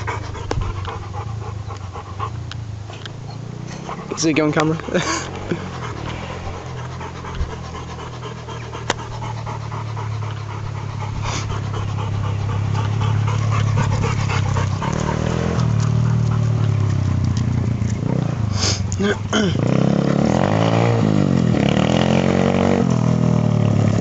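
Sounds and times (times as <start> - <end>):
pit bike engine running: 0.0 - 24.0.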